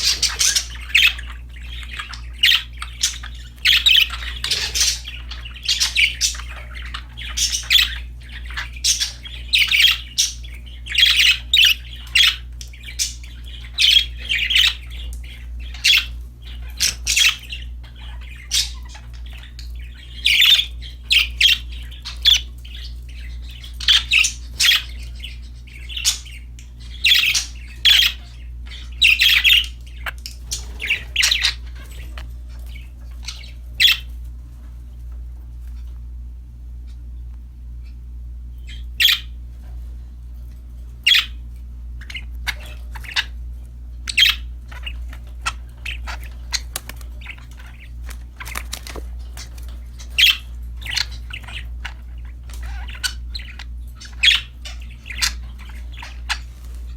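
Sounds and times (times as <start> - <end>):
budgerigars chirping and squawking: 0.0 - 56.9
low steady hum: 0.0 - 56.9.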